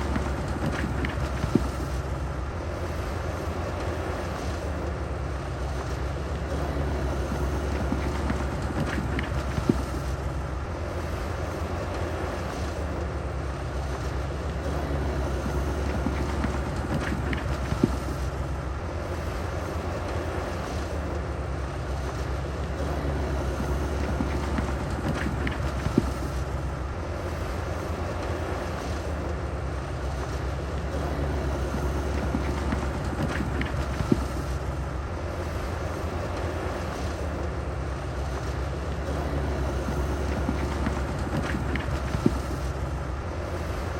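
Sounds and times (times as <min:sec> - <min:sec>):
diesel machinery engine rumble: 0:00.0 - 0:43.9.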